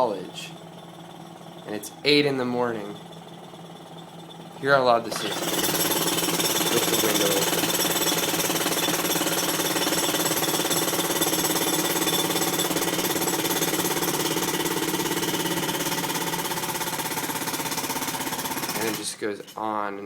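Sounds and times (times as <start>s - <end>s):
jackhammer on concrete: 0.0s - 19.8s.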